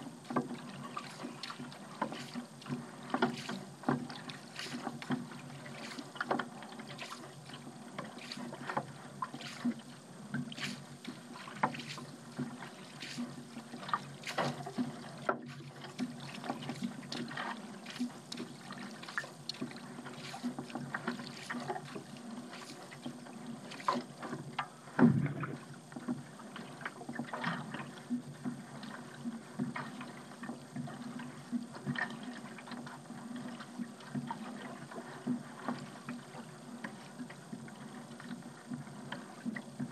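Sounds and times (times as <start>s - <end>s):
paddle pulling through water: 0.0s - 39.9s
water splashes and drips: 0.0s - 39.9s.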